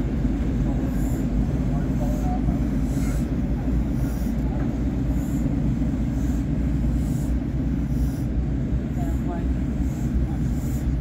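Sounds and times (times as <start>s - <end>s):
locomotive low rumble: 0.0s - 11.0s.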